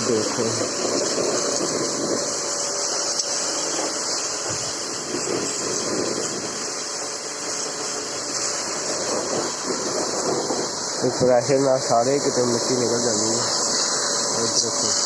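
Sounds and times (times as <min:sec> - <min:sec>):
motor hum: 0:00.0 - 0:15.0
pressure washer water jet hissing: 0:00.0 - 0:15.0.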